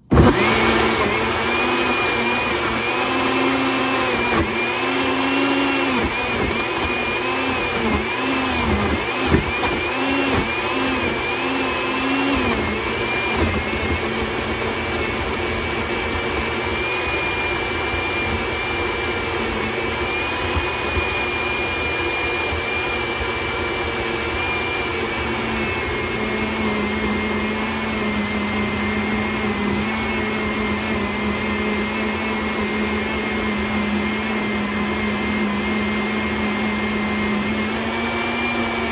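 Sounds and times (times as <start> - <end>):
blender motor running: 0.0 - 38.9.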